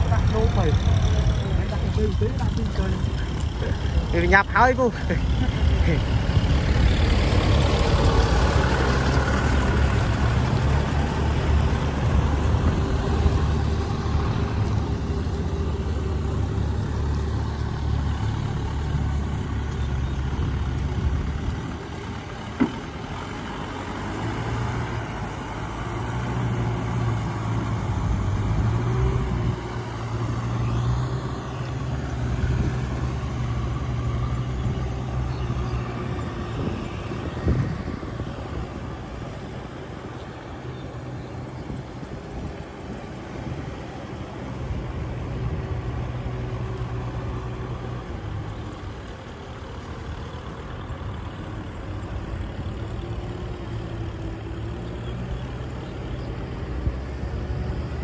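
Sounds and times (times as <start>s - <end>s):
tractor diesel engines droning: 0.0s - 58.0s.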